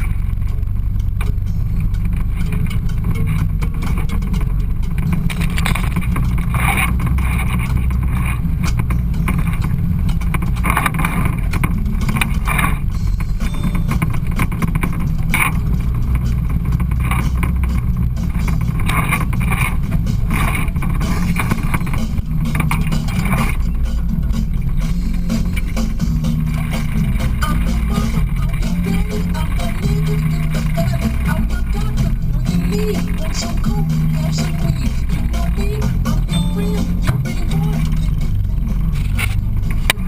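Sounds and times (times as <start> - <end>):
utility vehicle engine running: 0.0 - 40.0.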